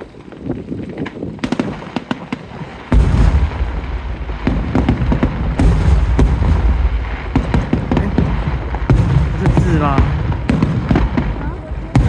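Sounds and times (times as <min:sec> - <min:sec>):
fireworks boom and rumble: 0:00.0 - 0:12.0
fireworks crackling: 0:00.0 - 0:12.0.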